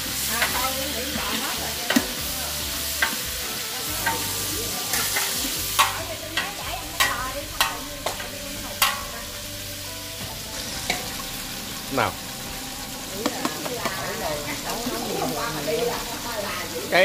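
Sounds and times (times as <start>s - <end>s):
food sizzling in oil: 0.0s - 17.0s
metal ladle scraping pot: 0.4s - 9.4s, 10.4s - 15.3s.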